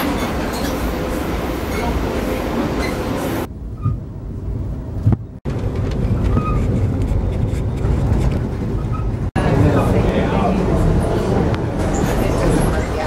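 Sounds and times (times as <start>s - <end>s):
train rumble from inside: 0.0s - 13.0s.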